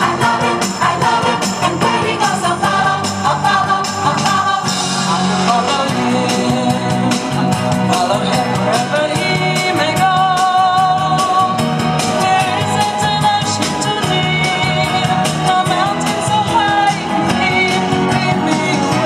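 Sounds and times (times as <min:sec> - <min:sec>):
song with person singing: 0:00.0 - 0:19.0.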